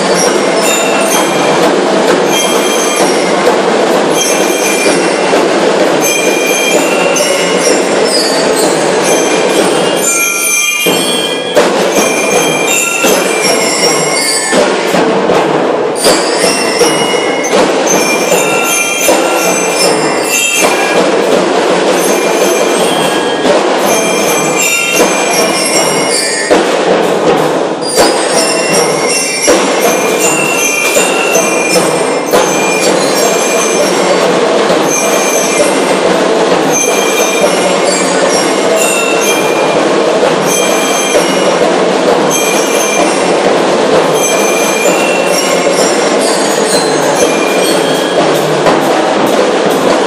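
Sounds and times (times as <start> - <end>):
bell lyres playing melody: 0.0 - 50.0
snare and bass drums beating: 0.0 - 50.0.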